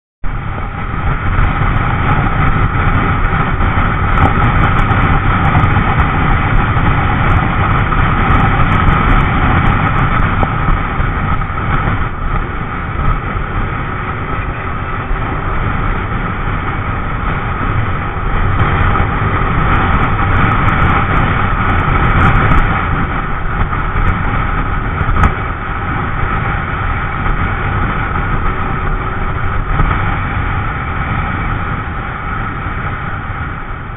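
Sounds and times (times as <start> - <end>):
wind rush on microphone: 0.2 - 33.9
motorbike engine: 0.3 - 33.9.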